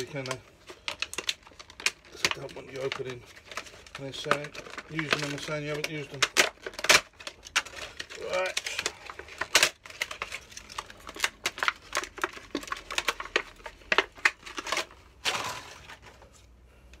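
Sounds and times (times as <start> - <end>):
plastic packaging crinkling: 0.0 - 16.5
plastic packaging rustle: 0.0 - 16.6.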